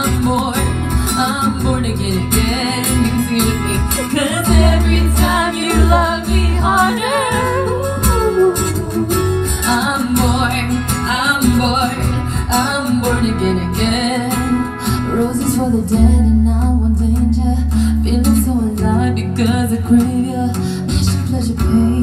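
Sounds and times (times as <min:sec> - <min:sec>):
deep steady bass: 0:00.0 - 0:22.0
guitar: 0:00.0 - 0:22.0
woman singing into a microphone: 0:00.0 - 0:22.0.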